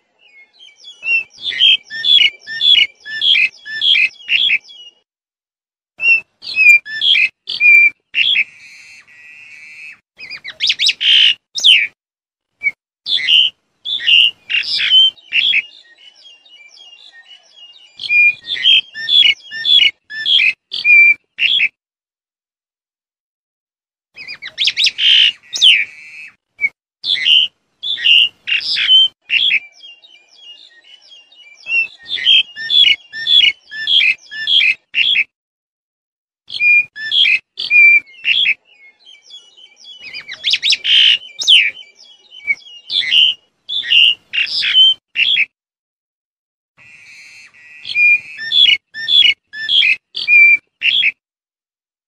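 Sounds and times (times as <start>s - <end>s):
starling calling: 0.2s - 5.0s, 6.0s - 12.0s, 12.6s - 21.7s, 24.2s - 35.3s, 36.5s - 45.5s, 46.8s - 51.2s.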